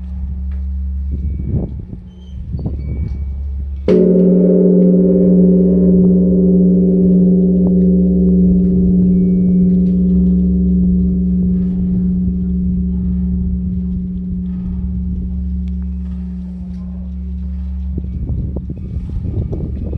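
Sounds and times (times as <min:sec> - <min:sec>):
large temple bell ringing: 0:00.0 - 0:19.9.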